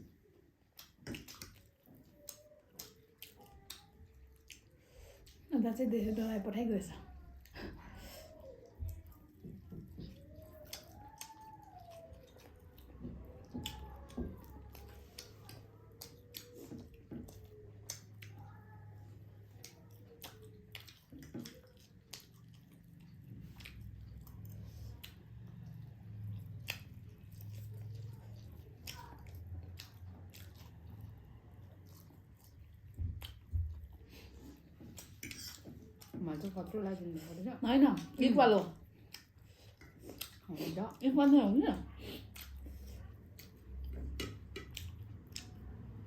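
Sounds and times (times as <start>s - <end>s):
chewing noodles with wet clicks: 0.0s - 5.5s, 8.3s - 46.0s.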